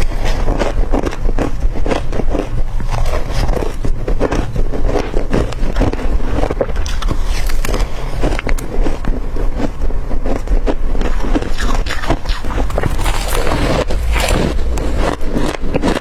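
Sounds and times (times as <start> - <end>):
crunching ice being chewed: 0.0 - 16.0.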